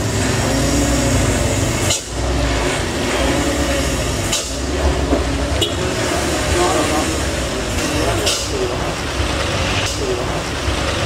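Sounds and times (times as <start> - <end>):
motorcycle engine: 0.0 - 11.0
truck engine: 0.0 - 11.0.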